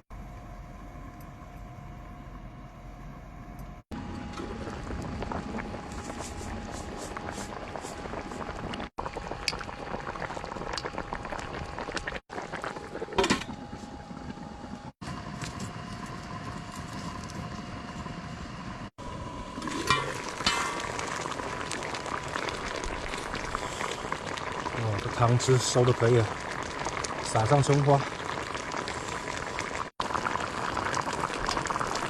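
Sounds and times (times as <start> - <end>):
sauce bubbling in a pot: 4.0 - 32.0.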